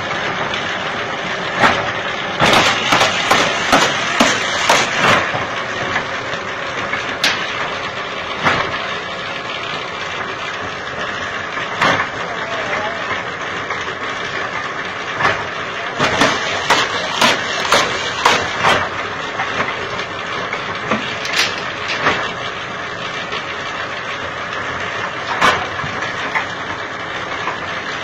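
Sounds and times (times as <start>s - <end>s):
splitting machine running: 0.0s - 28.0s.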